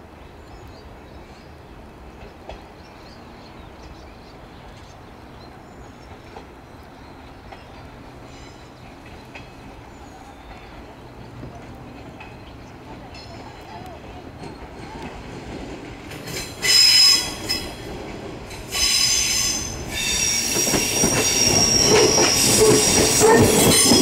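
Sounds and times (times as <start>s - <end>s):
electric train rumbling: 0.0s - 24.0s
train wheels clicking on rails: 2.1s - 4.0s, 6.0s - 24.0s.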